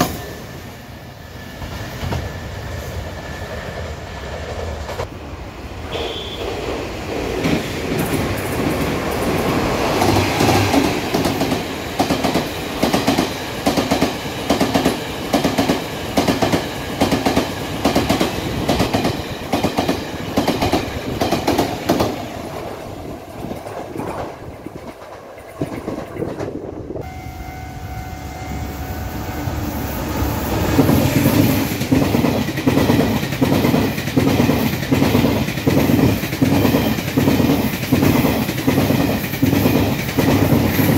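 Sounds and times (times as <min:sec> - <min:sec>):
steady train tones: 0:00.0 - 0:40.9
train wheels clickety-clack: 0:01.4 - 0:05.2, 0:06.0 - 0:26.8, 0:30.3 - 0:40.9.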